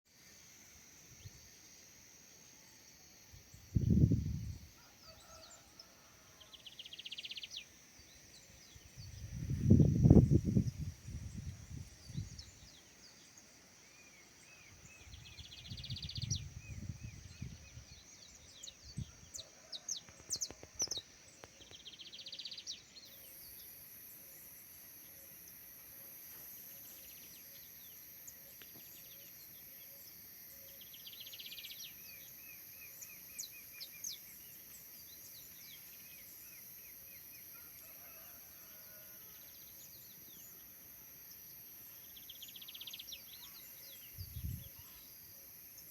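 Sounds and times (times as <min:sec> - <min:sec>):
high-pitched insect drone: 0:00.1 - 0:05.9, 0:06.6 - 0:45.9
higher insect hum: 0:00.1 - 0:45.9.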